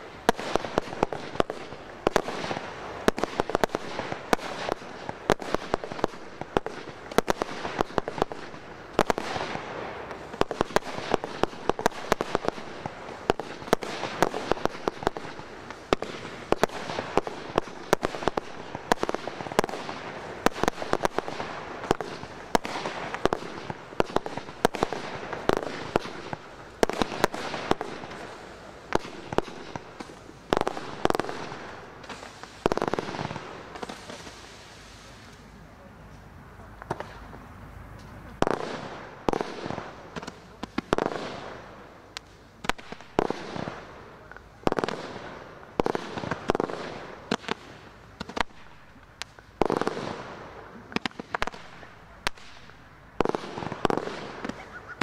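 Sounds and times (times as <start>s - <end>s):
firework bangs and pops: 0.0s - 55.0s
firework crackle: 0.0s - 55.0s.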